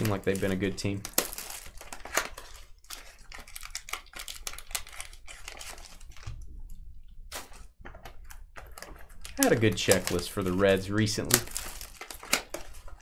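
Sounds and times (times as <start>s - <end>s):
foil wrapping crinkling: 0.0s - 6.4s, 7.3s - 13.0s.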